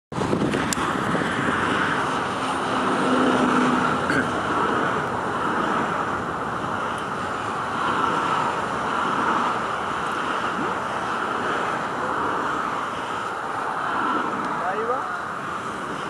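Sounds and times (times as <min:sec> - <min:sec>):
distant jet engines roaring: 0:00.1 - 0:16.0.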